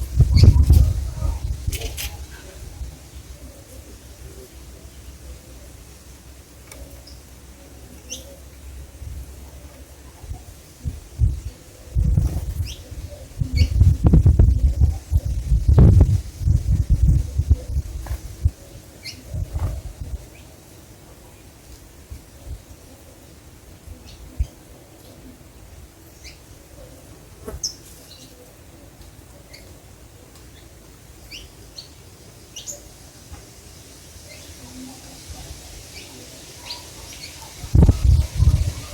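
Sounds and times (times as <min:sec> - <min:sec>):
small birds chirping: 0:00.0 - 0:08.8, 0:09.5 - 0:20.6, 0:26.0 - 0:33.0, 0:33.8 - 0:38.9
steady low background noise: 0:00.0 - 0:38.9.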